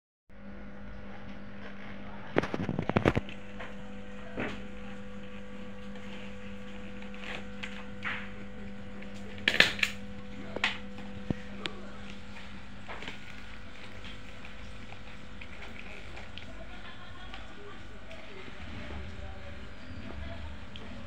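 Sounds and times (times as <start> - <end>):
steady low hum: 0.3 - 21.0
card and plastic rustling: 2.4 - 21.0.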